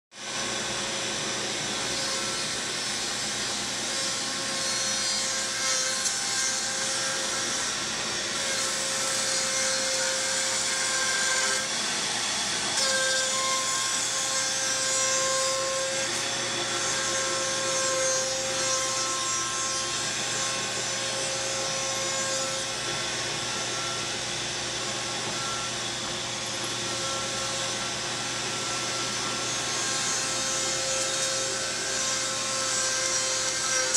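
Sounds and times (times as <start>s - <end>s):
router cutting wood hiss: 0.2s - 33.9s
router spindle whine: 0.2s - 33.9s.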